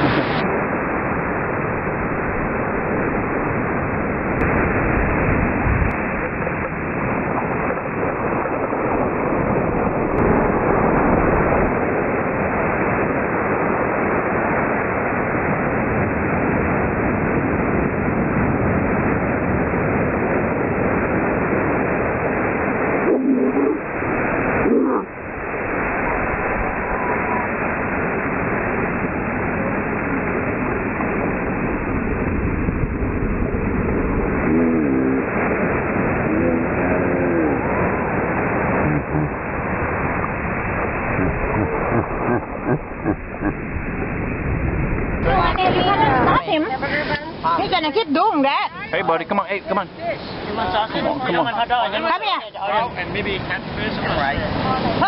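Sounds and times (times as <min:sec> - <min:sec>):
ocean surf breaking on beach: 0:00.0 - 0:55.0
wind on microphone: 0:00.0 - 0:55.0.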